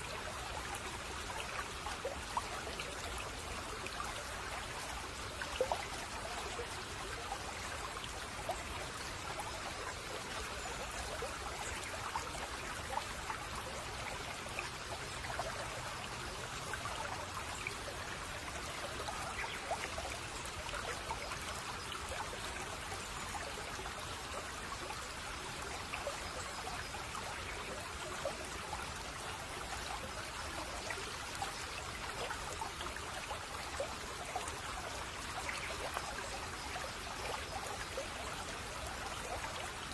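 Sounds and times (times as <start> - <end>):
brook babbling and trickling: 0.0 - 39.9.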